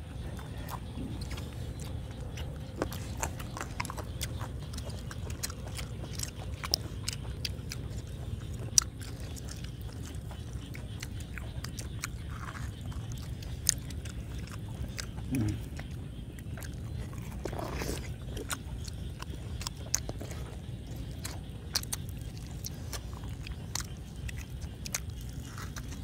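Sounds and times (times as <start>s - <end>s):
people chewing: 0.0s - 26.0s
steady low rumble: 0.0s - 26.0s.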